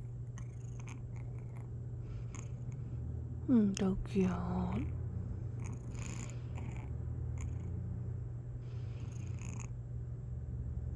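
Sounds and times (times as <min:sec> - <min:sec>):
kitten purring: 0:00.0 - 0:09.8.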